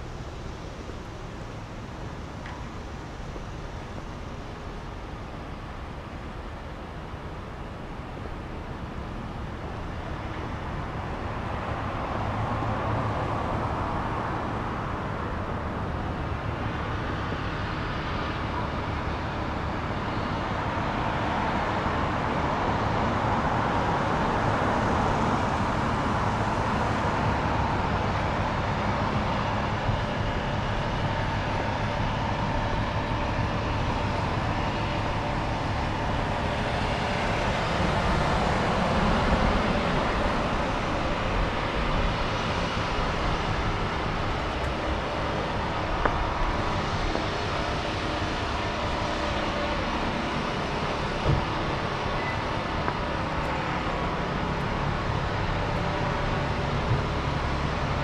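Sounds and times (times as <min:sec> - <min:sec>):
heavy vehicle engine rumble: 0:00.0 - 0:58.0.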